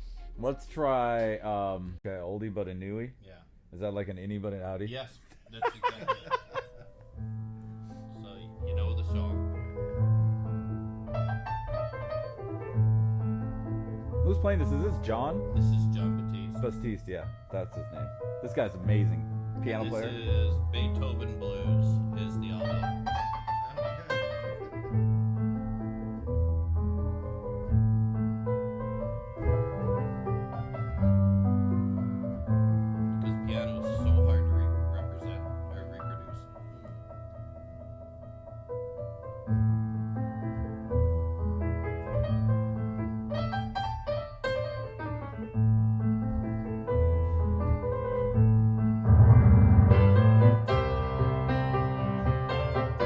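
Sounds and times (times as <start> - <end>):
solo piano over loudspeakers: 5.8 - 53.0.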